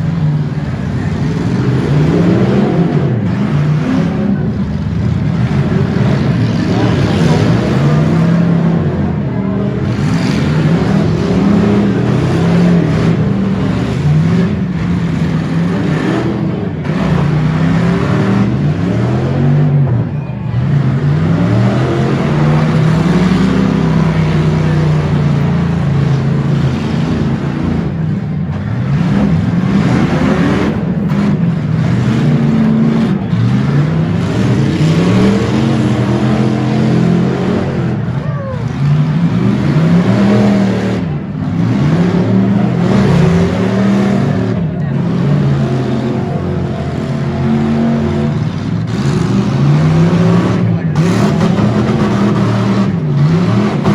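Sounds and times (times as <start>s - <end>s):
car engines revving hard: 0.0s - 53.9s.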